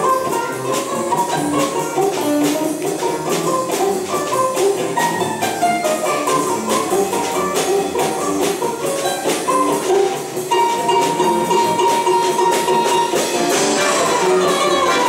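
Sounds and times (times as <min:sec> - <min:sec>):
folk string orchestra playing swing: 0:00.0 - 0:15.0
guitar: 0:00.0 - 0:15.0.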